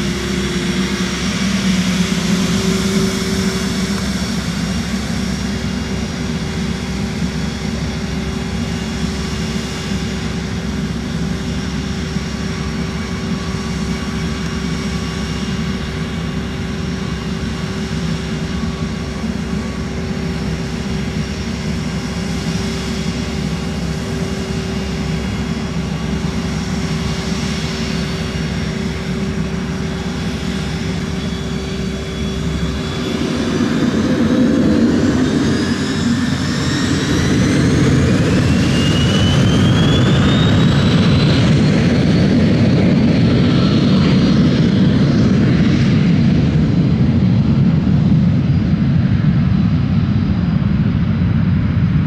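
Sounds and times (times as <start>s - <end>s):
jet engines whining: 0.0s - 52.0s.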